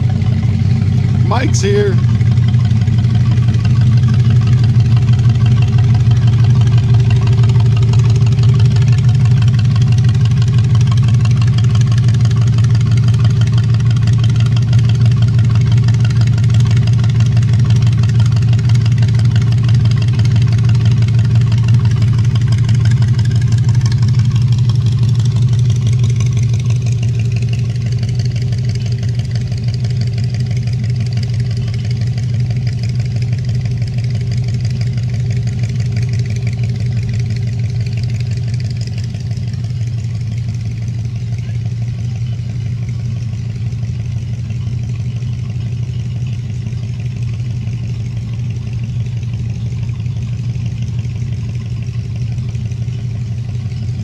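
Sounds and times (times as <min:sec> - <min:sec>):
old car engines idling: 0:00.0 - 0:54.0.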